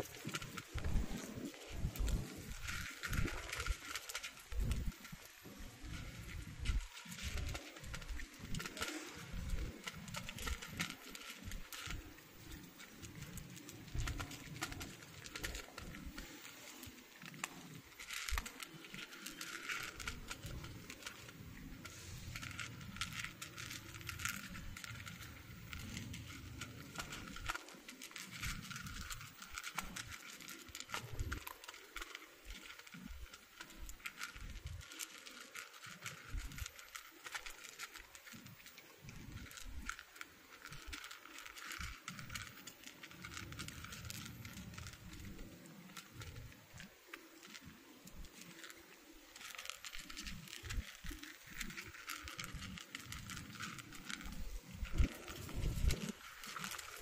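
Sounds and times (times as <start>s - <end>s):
cats crunching dry kibble: 0.0s - 57.0s.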